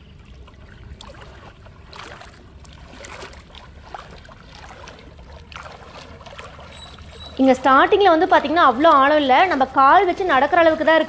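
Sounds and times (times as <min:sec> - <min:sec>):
water sloshing as person wades: 0:00.0 - 0:11.0.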